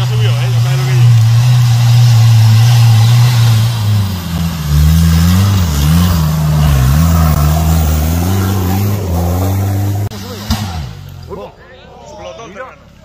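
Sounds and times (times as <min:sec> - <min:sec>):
off-road vehicle engine revving: 0:00.0 - 0:11.6.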